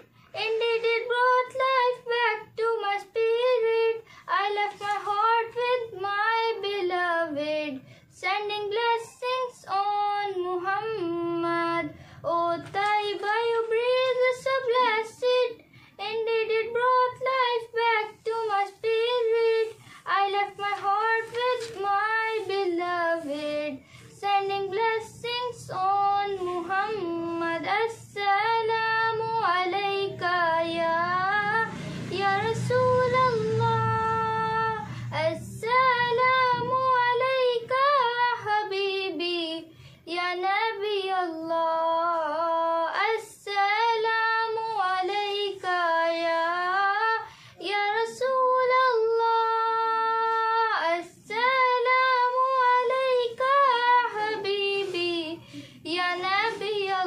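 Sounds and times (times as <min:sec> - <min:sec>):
girl singing unaccompanied: 0:00.0 - 0:57.0.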